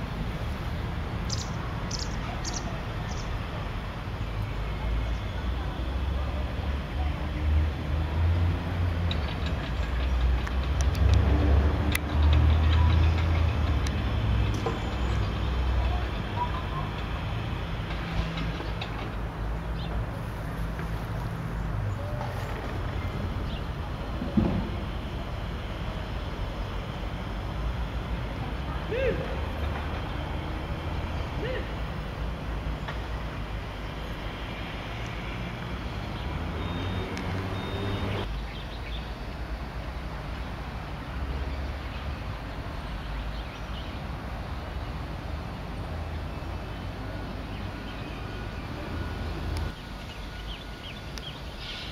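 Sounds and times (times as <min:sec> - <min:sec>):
distant traffic rumble: 0:00.0 - 0:51.9.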